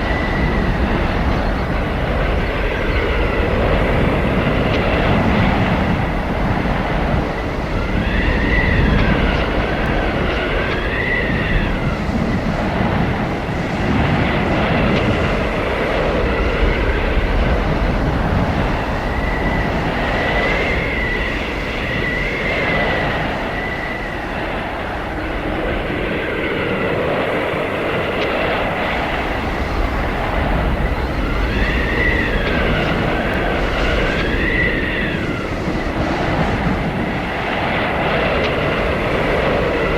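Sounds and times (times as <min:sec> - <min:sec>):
heavy wind rushing: 0:00.0 - 0:39.9
wind whistling howl: 0:00.0 - 0:39.9.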